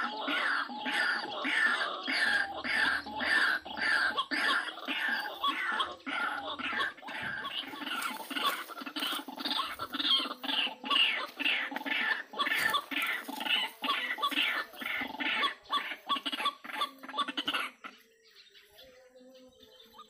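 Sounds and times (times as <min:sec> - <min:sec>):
waterhen calling: 0:00.0 - 0:18.0.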